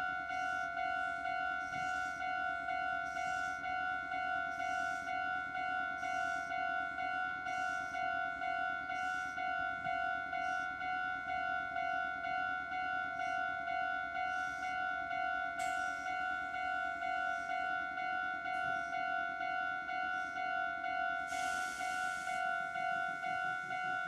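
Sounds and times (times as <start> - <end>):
electric train running: 0.0 - 24.0.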